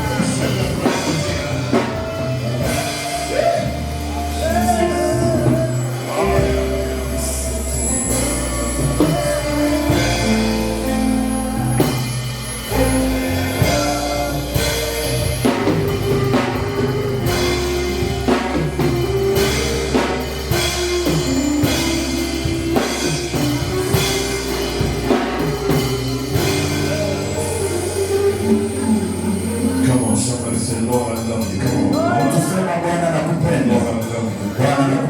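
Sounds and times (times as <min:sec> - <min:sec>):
drum kit beat: 0:00.0 - 0:32.7
church band music: 0:00.0 - 0:35.0.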